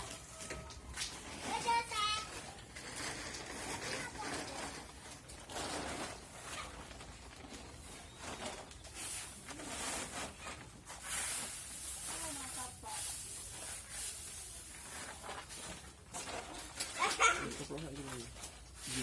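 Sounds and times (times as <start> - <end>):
hissing and rustling noise: 0.0 - 19.0.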